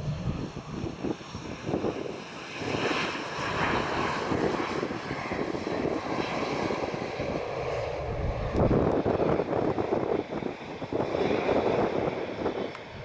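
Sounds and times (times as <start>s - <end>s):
jet engines at low power: 0.0s - 13.0s.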